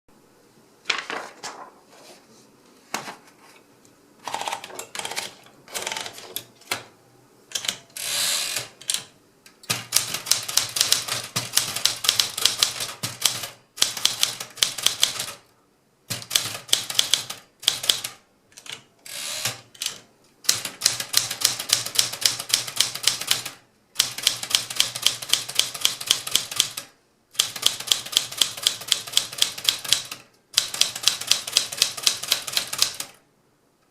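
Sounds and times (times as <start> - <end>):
manual typewriter typing: 4.2 - 6.9, 7.5 - 15.4, 16.1 - 33.2.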